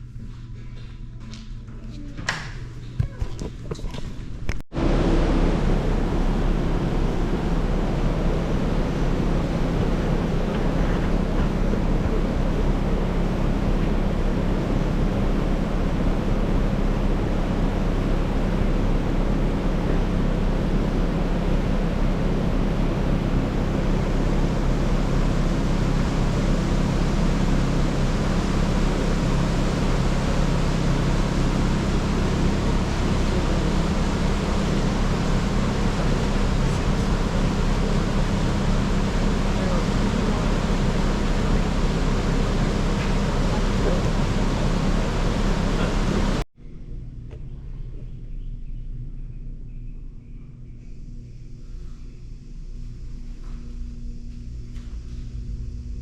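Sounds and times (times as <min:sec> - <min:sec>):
machinery humming and rushing: 0:03.7 - 0:48.0, 0:51.0 - 0:56.0.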